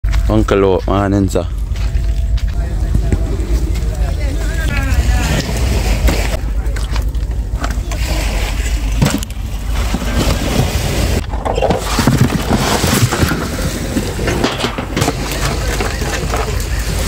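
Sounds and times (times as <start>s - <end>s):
wind rumbling on microphone: 0.0s - 17.0s
indistinct voices: 0.2s - 9.0s, 11.2s - 17.0s.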